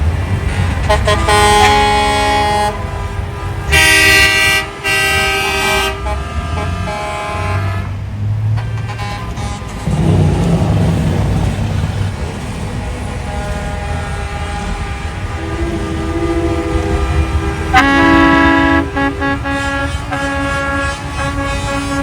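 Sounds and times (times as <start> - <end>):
diesel engines rumbling: 0.0 - 22.0
truck air horns blowing: 0.3 - 10.4, 12.6 - 22.0.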